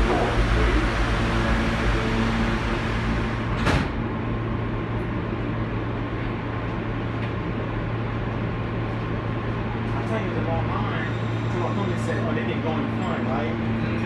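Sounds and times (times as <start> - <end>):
subway car hum and rumble: 0.0 - 14.0.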